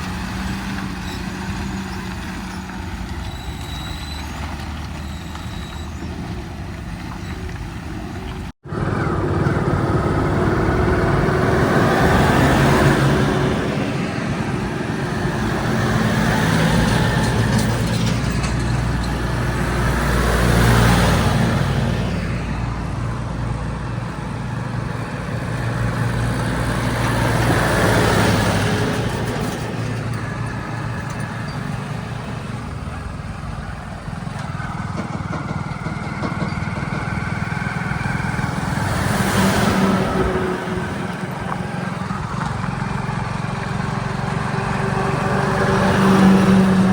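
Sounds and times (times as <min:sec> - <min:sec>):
heavy diesel engine revving: 0:00.0 - 0:46.9.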